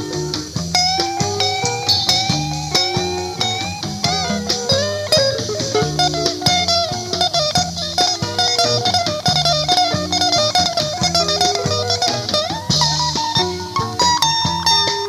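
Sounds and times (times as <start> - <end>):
guitar melody with bent notes: 0.0 - 15.0.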